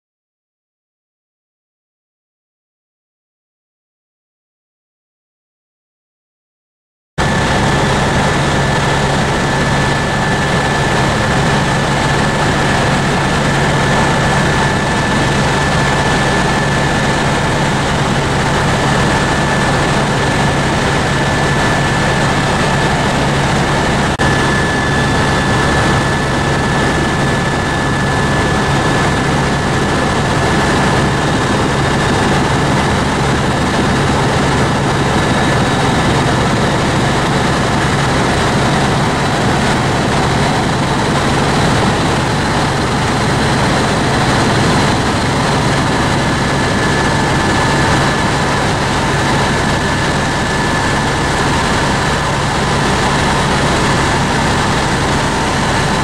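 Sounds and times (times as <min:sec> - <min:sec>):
helicopter engine and rotor: 0:07.2 - 0:56.0
high whine: 0:07.2 - 0:56.0.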